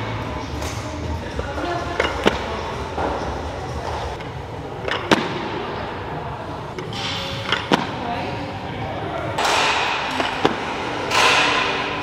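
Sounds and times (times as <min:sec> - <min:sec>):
low hum of gym hall: 0:00.0 - 0:12.0.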